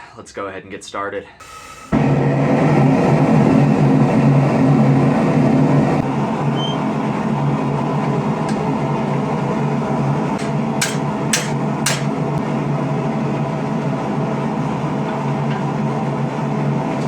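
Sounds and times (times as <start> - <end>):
workshop machinery drone: 1.4 - 17.0.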